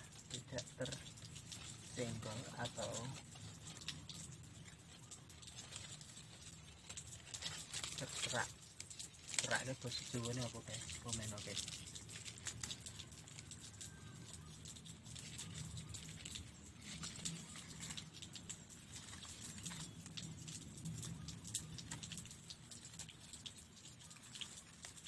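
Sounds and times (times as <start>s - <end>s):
fence strips clicking and crackling: 0.0s - 25.0s.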